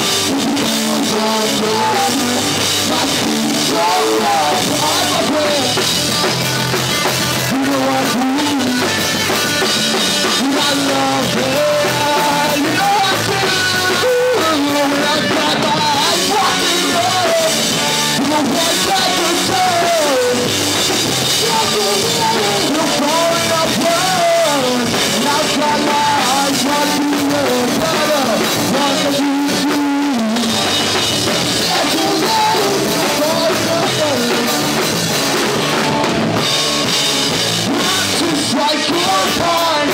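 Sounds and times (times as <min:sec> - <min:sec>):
loud rock band playing: 0:00.0 - 0:39.9
vocalist singing: 0:00.0 - 0:39.9.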